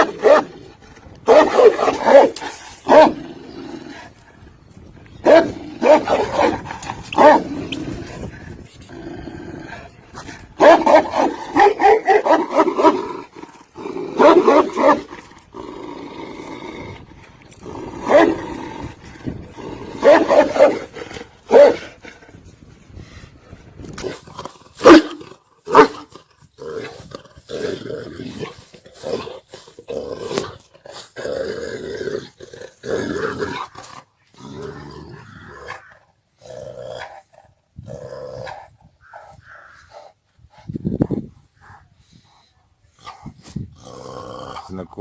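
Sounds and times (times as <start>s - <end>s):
large dogs barking and growling: 0.0s - 4.5s, 5.2s - 22.6s, 23.9s - 45.0s.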